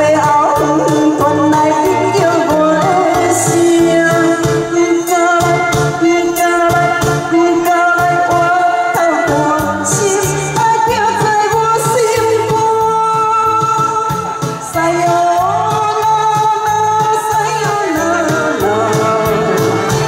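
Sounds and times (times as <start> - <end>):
amplified backing track: 0.0 - 20.0
woman singing pop song: 0.0 - 20.0.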